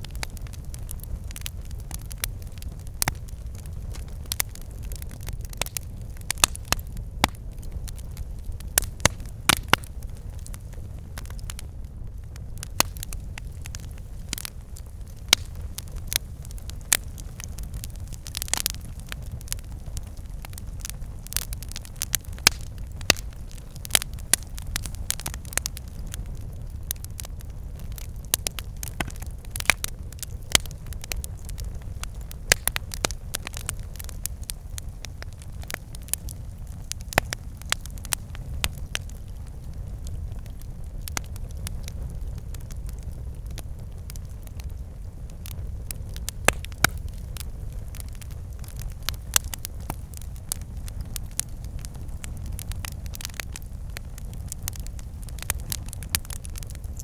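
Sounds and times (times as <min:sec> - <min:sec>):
campfire crackles and pops: 0:00.0 - 0:57.0
low rumble of flames: 0:00.0 - 0:57.0.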